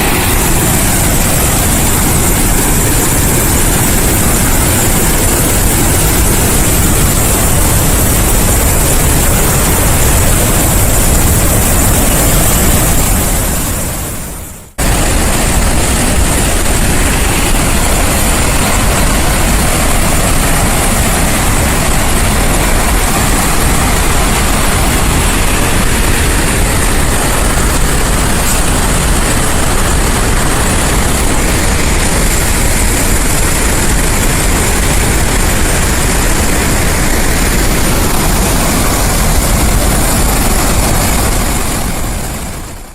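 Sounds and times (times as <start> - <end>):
churning water rushing: 0.0 - 42.9.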